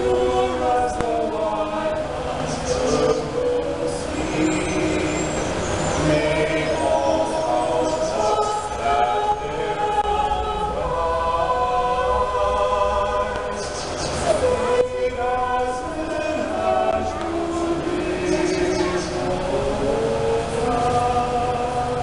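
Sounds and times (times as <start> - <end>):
small choir singing: 0.0 - 22.0.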